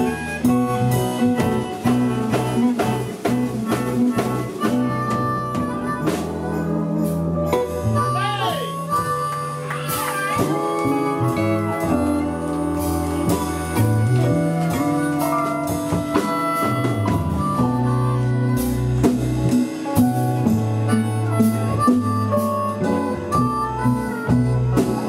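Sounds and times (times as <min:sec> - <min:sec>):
drum kit beat: 0:00.0 - 0:25.0
electric guitar: 0:00.0 - 0:25.0
moving bass line: 0:00.0 - 0:25.0.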